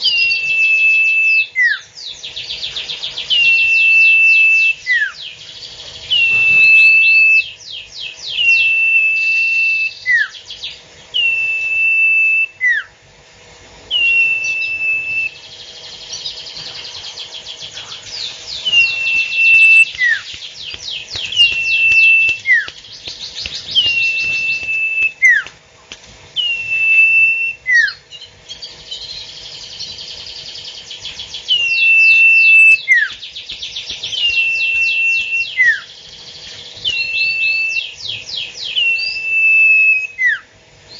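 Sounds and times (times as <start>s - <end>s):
songbird singing: 0.0s - 13.0s, 13.9s - 40.9s.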